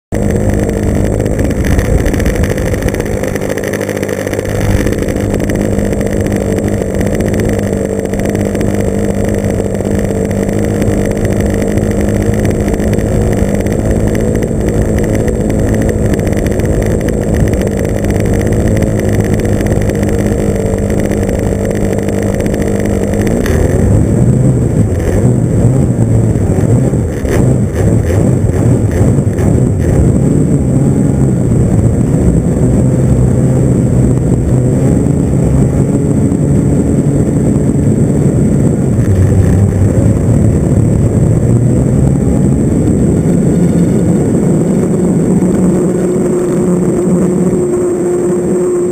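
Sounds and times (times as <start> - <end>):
model airplane engine: 0.1 - 48.9.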